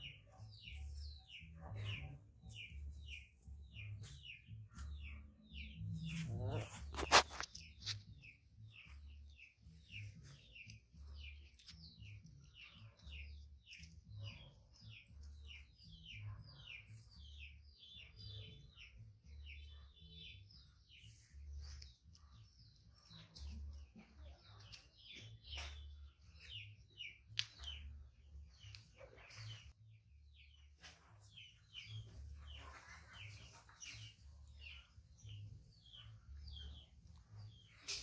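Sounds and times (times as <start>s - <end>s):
faint birds chirping: 0.0s - 38.0s.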